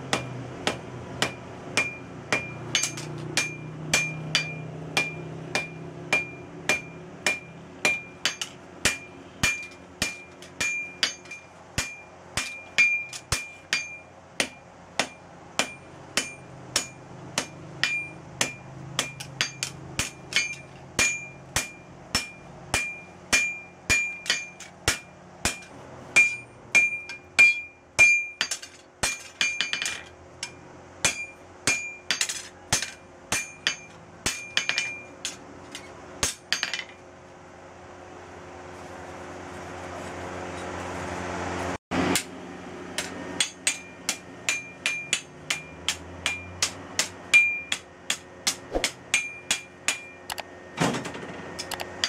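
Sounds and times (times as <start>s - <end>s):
hammer striking steel on anvil: 0.0s - 37.0s, 42.1s - 50.4s.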